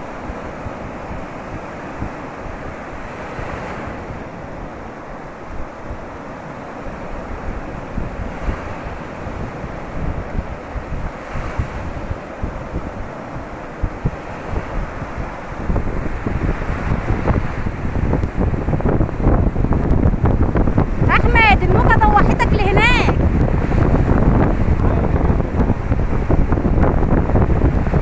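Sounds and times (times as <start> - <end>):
sea surf washing onto beach: 0.0 - 28.0
waves breaking: 0.0 - 28.0
wind buffeting microphone: 0.0 - 28.0.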